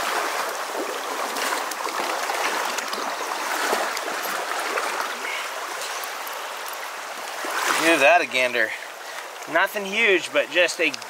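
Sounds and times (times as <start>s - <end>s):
creek water flowing over stones: 0.0s - 11.0s.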